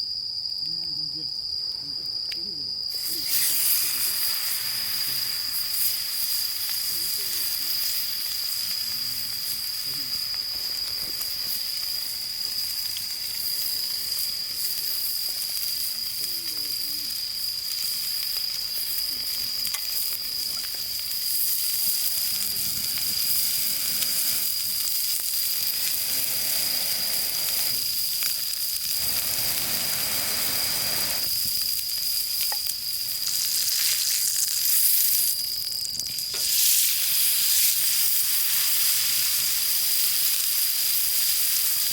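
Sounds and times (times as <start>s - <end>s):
food sizzling in a pan: 2.9s - 41.9s.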